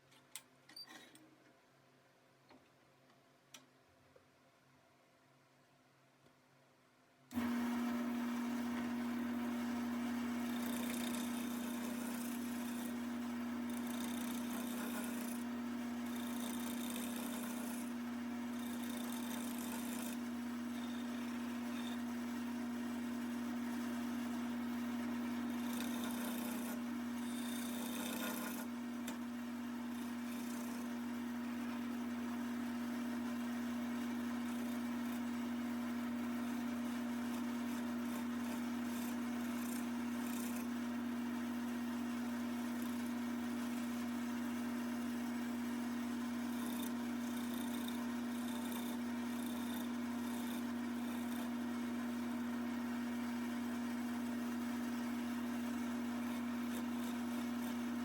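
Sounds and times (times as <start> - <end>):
tool scraping spinning wood: 7.3 - 58.0
wood lathe motor hum: 7.3 - 58.0.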